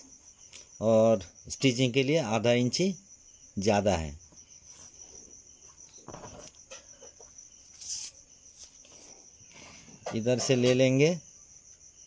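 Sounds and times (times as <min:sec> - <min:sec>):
insect trill: 0:00.0 - 0:12.0.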